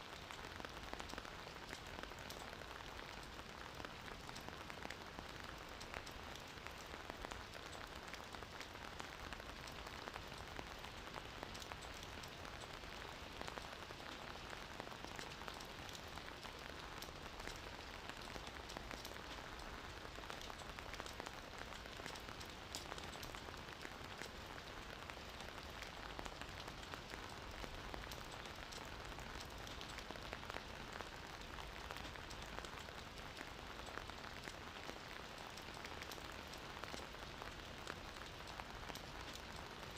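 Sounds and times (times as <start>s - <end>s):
gentle rain falling: 0.0s - 39.9s
raindrops pattering on a surface: 0.0s - 39.9s.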